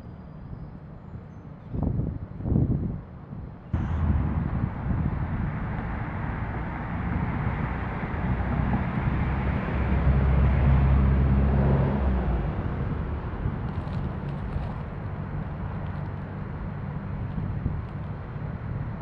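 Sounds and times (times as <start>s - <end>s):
street traffic: 0.0s - 19.0s
vehicle engine passing: 3.8s - 19.0s.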